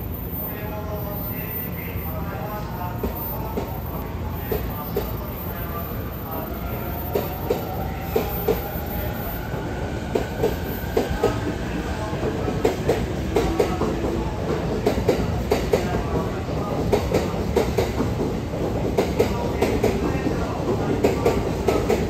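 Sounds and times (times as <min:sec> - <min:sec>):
low train rumble: 0:00.0 - 0:22.0.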